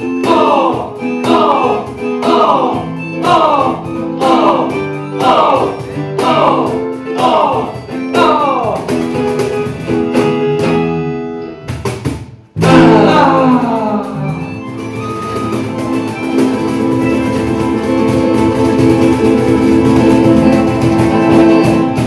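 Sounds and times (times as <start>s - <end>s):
guitar band playing live: 0.0s - 22.0s.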